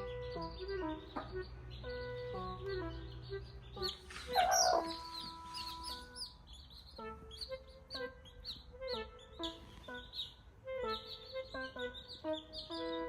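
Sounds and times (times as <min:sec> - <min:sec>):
background music with held notes: 0:00.0 - 0:13.0
high peeping: 0:00.0 - 0:13.0
hen clucking: 0:00.2 - 0:13.0.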